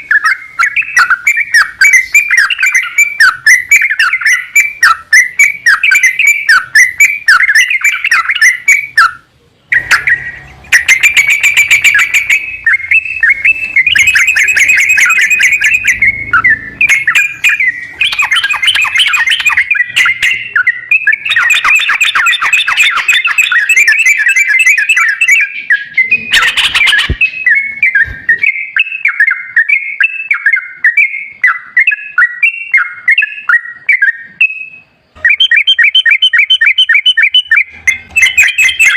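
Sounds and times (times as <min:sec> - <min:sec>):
bulbul song: 0:00.0 - 0:38.9.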